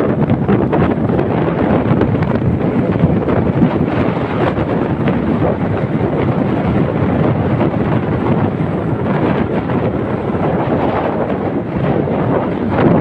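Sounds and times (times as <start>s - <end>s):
hay baler rumbling: 0.0s - 13.0s
wind buffeting microphone: 0.0s - 13.0s.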